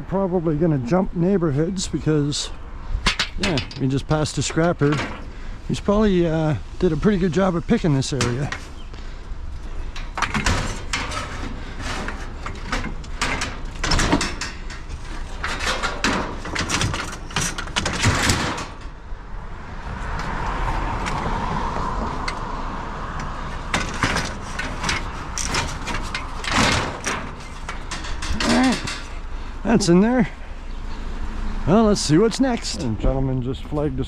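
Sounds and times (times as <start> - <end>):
scrap metal clanking and rattling: 0.4 - 19.1, 23.2 - 33.8.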